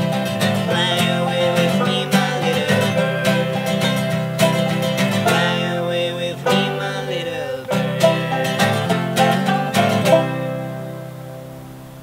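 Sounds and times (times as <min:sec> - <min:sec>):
plucked banjo: 0:00.0 - 0:12.0
strummed acoustic guitar: 0:00.0 - 0:12.0.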